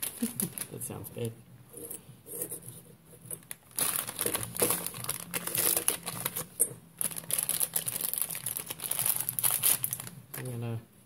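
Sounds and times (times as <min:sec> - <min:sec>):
plastic crinkling and rustling: 0:00.0 - 0:01.0, 0:02.7 - 0:10.7.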